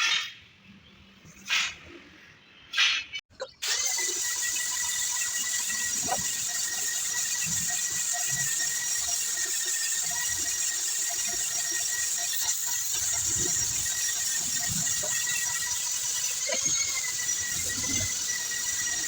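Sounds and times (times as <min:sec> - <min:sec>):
machine high-pitched whine: 0:03.7 - 0:19.0.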